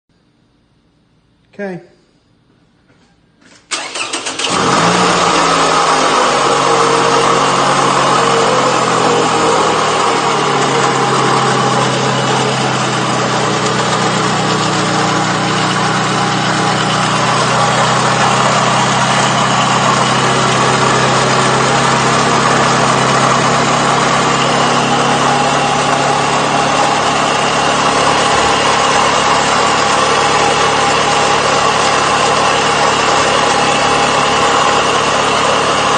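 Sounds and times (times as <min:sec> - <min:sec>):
car engine starting and idling: 0:03.5 - 0:35.9.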